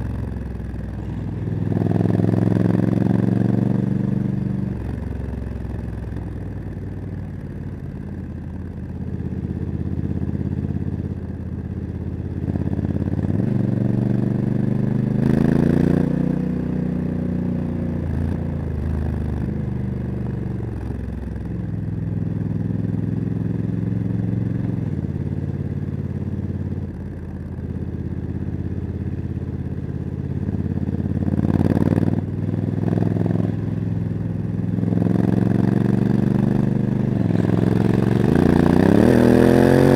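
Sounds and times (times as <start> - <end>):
motorcycle engine revving through gears: 0.0 - 6.4, 12.3 - 27.1, 27.8 - 39.9.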